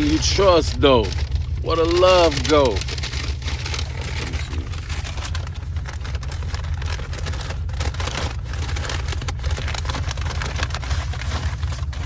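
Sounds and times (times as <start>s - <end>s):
car engine rumble: 0.0s - 12.0s
paper bag crinkling: 0.0s - 12.0s.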